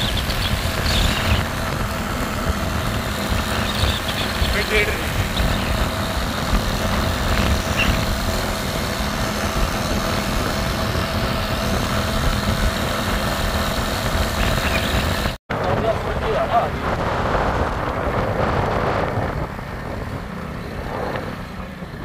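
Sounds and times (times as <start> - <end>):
motorcycle engine hum: 0.0 - 22.0
road noise: 0.0 - 22.0
wind rumble on microphone: 0.0 - 22.0.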